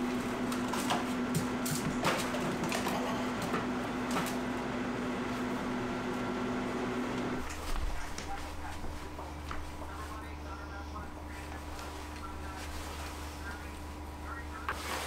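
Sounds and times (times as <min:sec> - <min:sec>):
freezer hum: 0:00.0 - 0:15.0.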